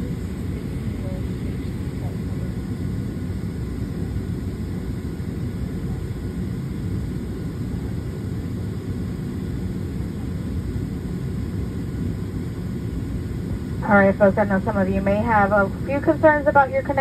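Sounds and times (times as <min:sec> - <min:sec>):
airplane cabin low rumble: 0:00.0 - 0:17.0.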